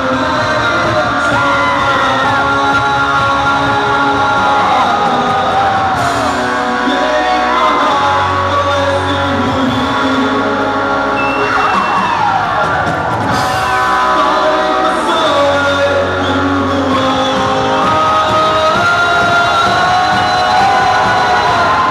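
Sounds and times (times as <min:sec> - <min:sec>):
electric guitar: 0:00.0 - 0:21.9
live rock band playing: 0:00.0 - 0:21.9
person singing: 0:00.0 - 0:21.9.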